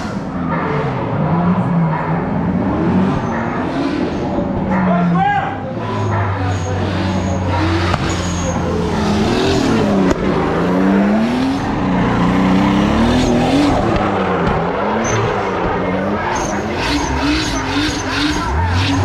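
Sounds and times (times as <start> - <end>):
car engine revving hard: 0.0 - 19.0
tyres skidding: 0.0 - 19.0.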